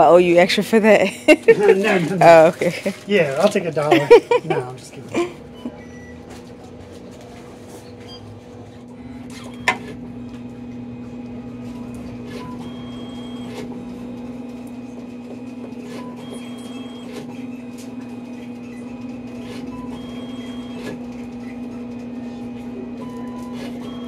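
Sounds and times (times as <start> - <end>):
printer humming: 0.0 - 24.0.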